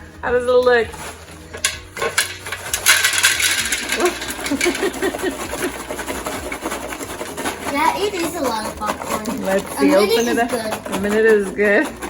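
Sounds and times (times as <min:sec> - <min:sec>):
popcorn rattling into bowl: 0:01.0 - 0:12.0.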